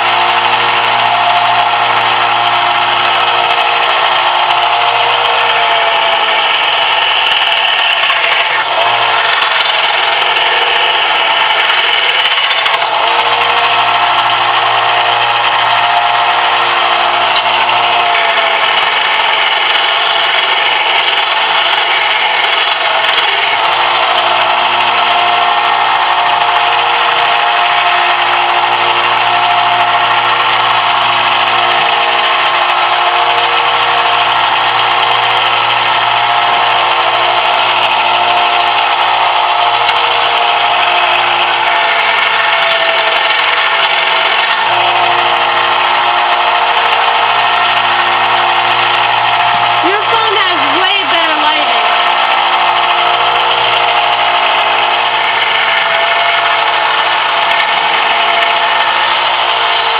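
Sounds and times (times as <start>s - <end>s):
power sander whining on metal: 0.0s - 59.9s.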